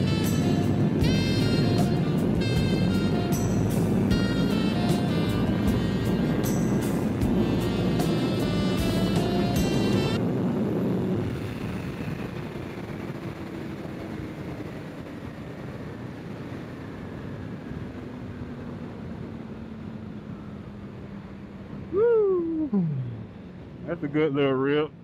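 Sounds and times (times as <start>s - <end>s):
wind rush: 0.0s - 23.9s
motorcycle engine whine: 0.0s - 24.8s.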